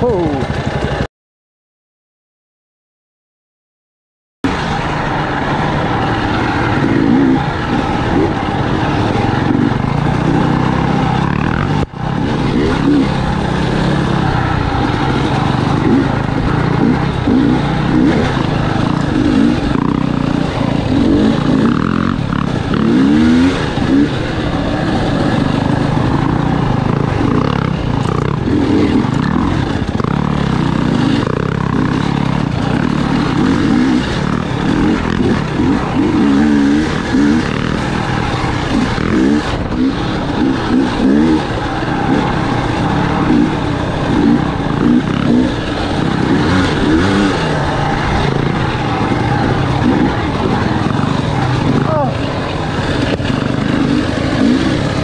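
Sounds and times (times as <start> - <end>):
dirt bike engine revving: 0.0 - 1.1, 4.4 - 55.0.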